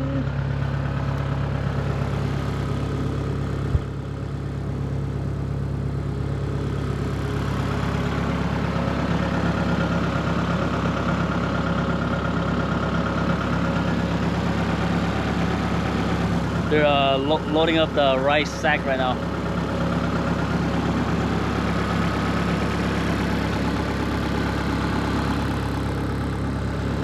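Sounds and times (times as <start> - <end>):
combine harvester engine running: 0.0 - 27.0.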